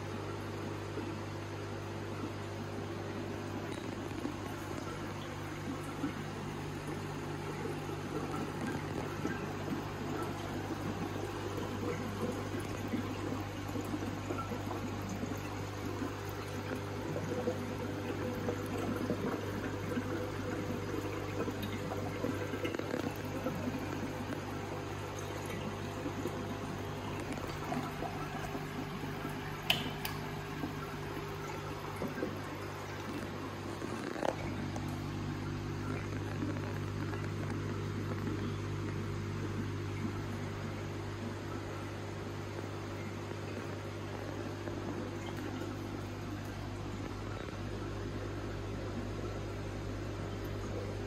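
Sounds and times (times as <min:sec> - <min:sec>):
pump humming: 0:00.0 - 0:51.0
water trickling and gurgling: 0:00.0 - 0:51.0.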